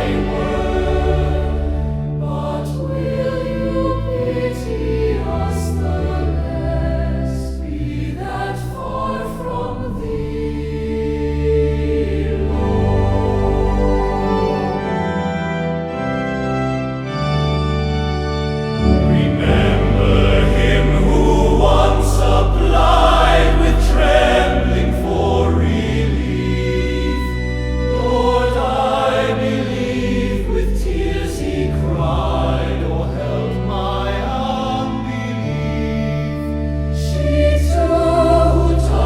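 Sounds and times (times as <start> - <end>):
choir singing a hymn: 0.0 - 39.0
organ-like bass: 0.0 - 39.0.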